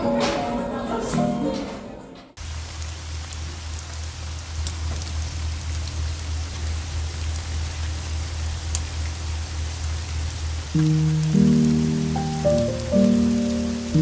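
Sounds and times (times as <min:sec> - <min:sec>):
steady rain falling: 0:02.4 - 0:14.0.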